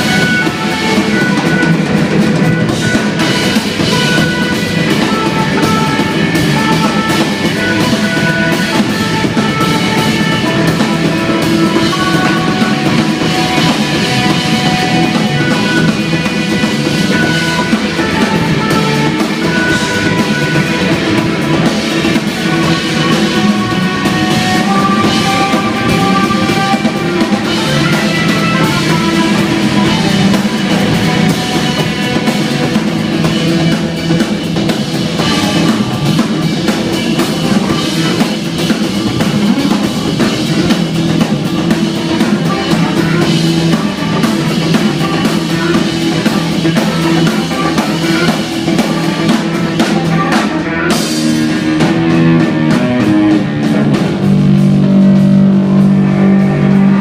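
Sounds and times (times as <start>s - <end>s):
drum kit: 0.0s - 57.0s
electric bass: 0.0s - 57.0s
held keyboard notes: 0.0s - 57.0s.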